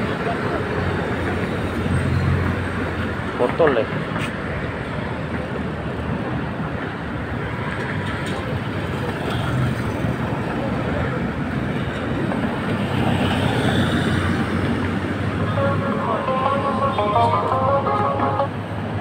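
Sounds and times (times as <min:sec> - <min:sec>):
cars and vans driving past: 0:00.0 - 0:19.0.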